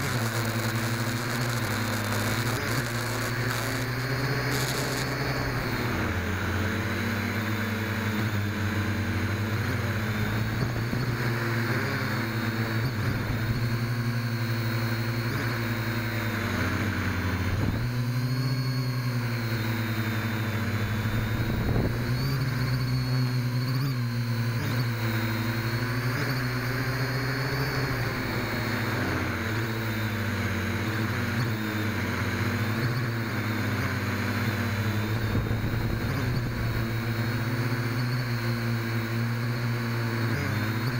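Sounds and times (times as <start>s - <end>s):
quadcopter motors buzzing: 0.0s - 40.9s.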